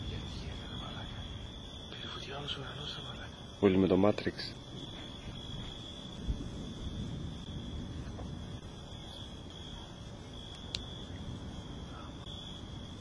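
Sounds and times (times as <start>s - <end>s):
crickets chirping: 0.0s - 13.0s
low background noise: 0.0s - 13.0s.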